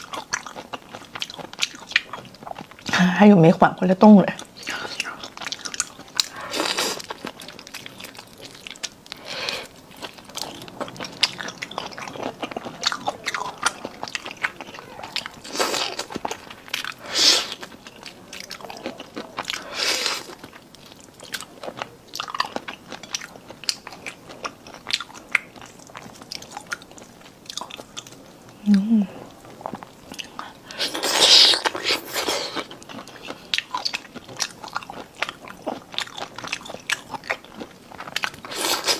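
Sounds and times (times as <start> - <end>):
wet chewing and crunching: 0.0 - 38.9.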